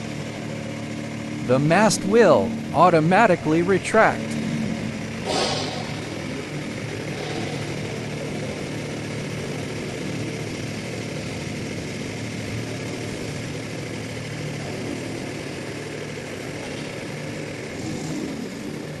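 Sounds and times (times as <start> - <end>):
pile driver engine running: 0.0 - 19.0.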